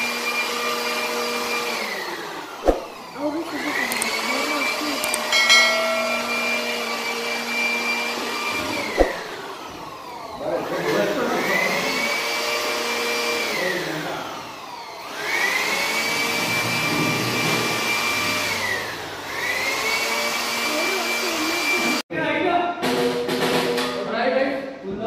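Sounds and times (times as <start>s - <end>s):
handheld vacuum cleaner motor whine: 0.0s - 22.0s.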